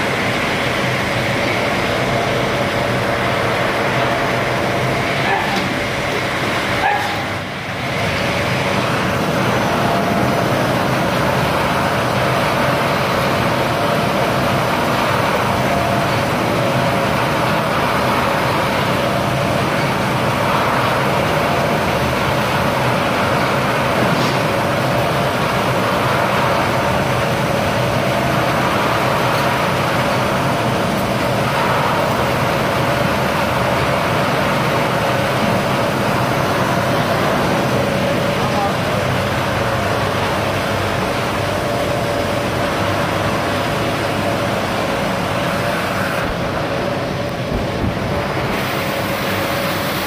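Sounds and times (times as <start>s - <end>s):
production line mechanical hum: 0.0s - 50.0s.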